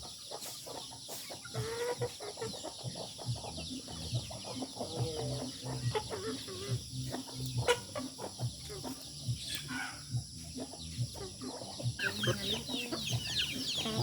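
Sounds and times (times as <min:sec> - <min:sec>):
chickens clucking and calling: 0:00.0 - 0:14.0
chicks chirping: 0:00.0 - 0:14.0.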